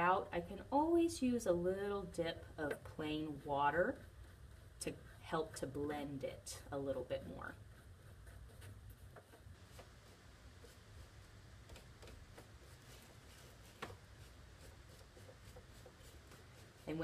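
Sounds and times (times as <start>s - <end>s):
low room hum: 0.0s - 17.0s
paintbrush ticks on paper: 2.7s - 6.1s, 6.7s - 17.0s.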